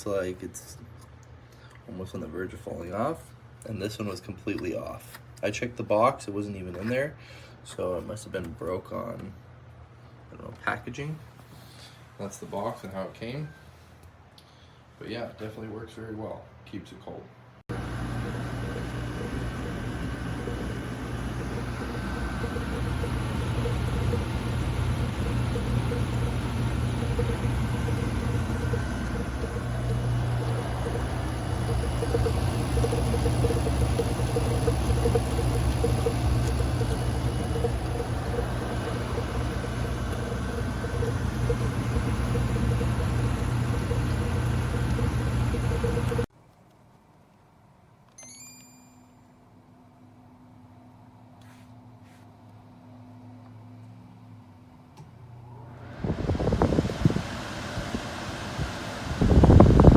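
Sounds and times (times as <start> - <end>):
air conditioner humming: 0.0 - 46.3, 52.8 - 59.9.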